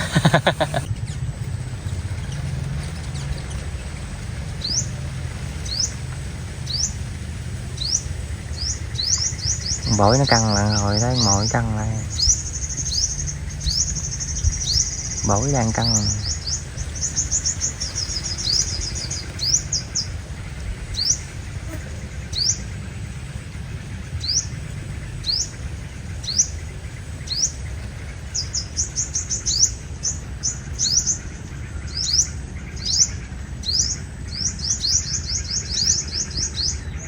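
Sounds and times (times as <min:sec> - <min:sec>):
bird trilling: 0:00.0 - 0:00.9, 0:06.6 - 0:37.0
bird chirping: 0:00.0 - 0:01.2, 0:01.8 - 0:37.0.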